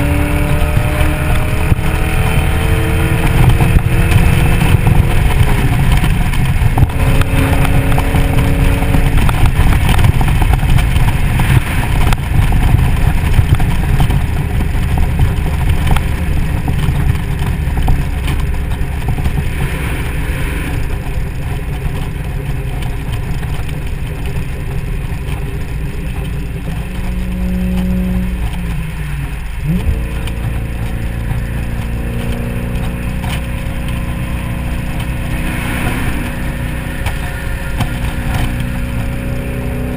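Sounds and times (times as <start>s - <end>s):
car engine: 0.0s - 39.9s
wind and road noise: 0.0s - 39.9s.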